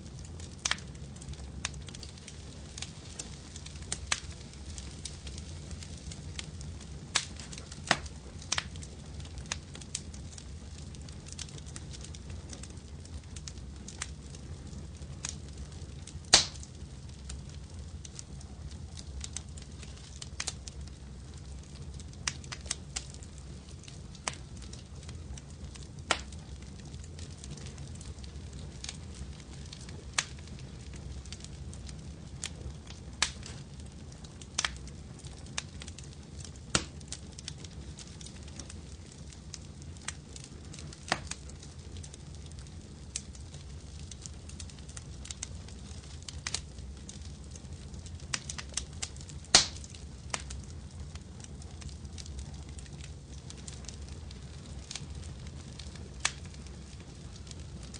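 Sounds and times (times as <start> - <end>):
low rumble of flame: 0.0 - 57.9
wood fire crackling and popping: 0.0 - 57.9.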